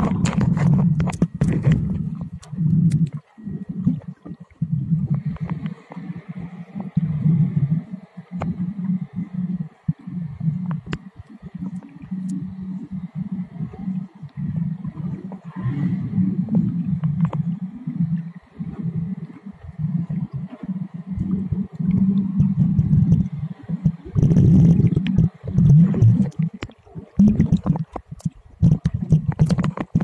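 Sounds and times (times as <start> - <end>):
muffled underwater gurgling: 0.0 - 30.0.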